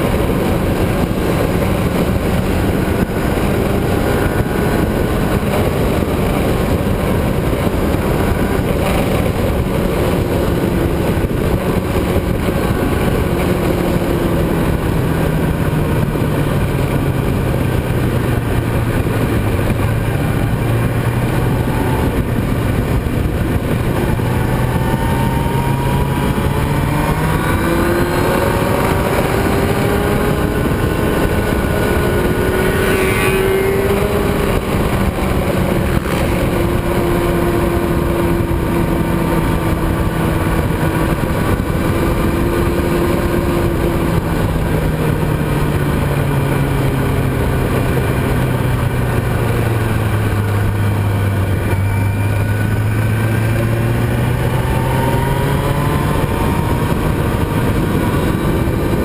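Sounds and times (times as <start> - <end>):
motorcycle engine at speed: 0.0 - 59.0
wind rush: 0.0 - 59.0.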